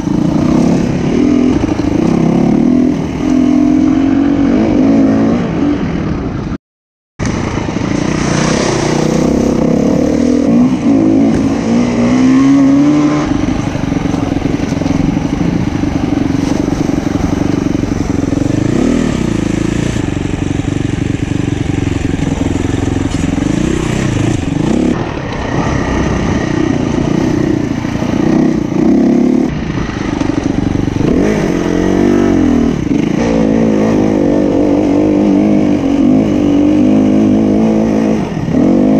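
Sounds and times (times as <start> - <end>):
motorcycle engine revving: 0.0 - 6.6, 7.2 - 38.9.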